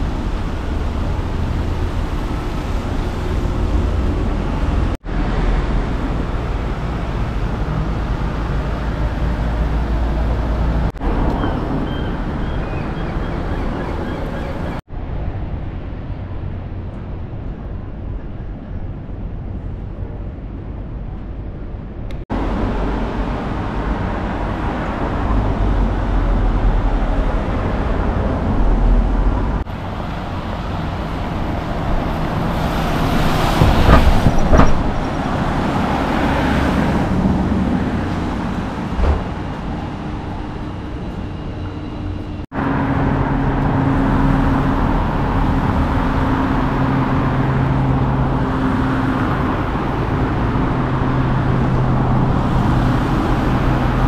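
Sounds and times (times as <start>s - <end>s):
road traffic passing: 0.0s - 54.0s
vehicle engines humming: 0.0s - 54.0s.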